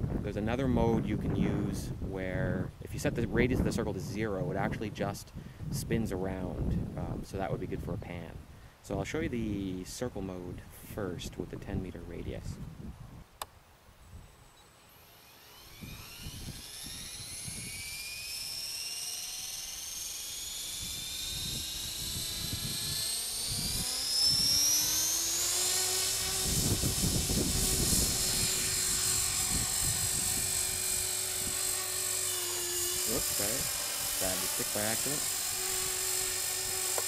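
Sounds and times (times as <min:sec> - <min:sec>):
helicopter motor and rotor whine: 0:00.0 - 0:08.3, 0:14.1 - 0:37.0.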